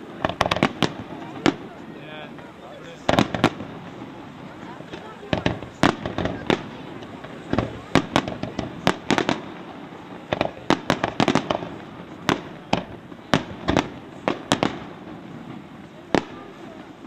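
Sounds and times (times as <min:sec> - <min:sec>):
fireworks launching and bursting: 0:00.0 - 0:17.0.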